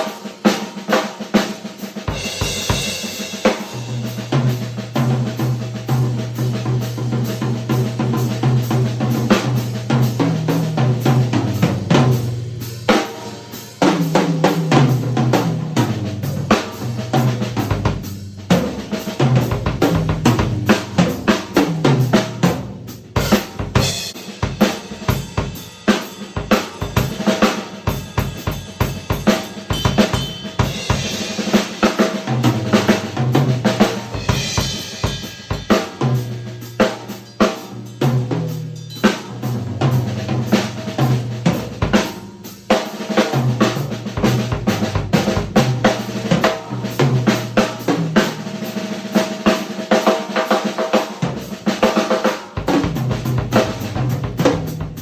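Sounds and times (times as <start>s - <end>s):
drum kit playing: 0.0s - 55.0s.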